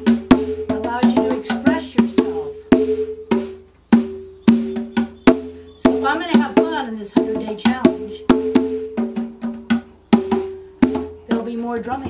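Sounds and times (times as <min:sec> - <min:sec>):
conga drums played by hand: 0:00.0 - 0:12.0.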